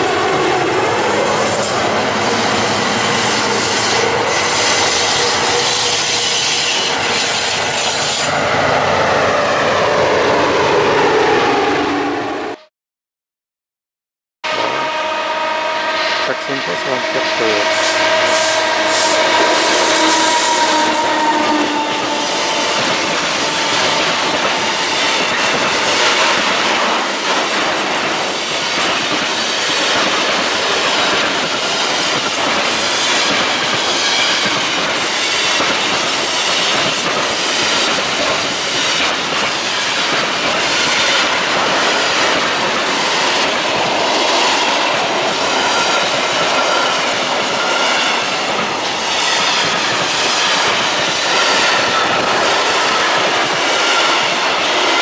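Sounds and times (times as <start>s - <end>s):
freight train rolling past: 0.0s - 12.7s, 14.5s - 55.0s.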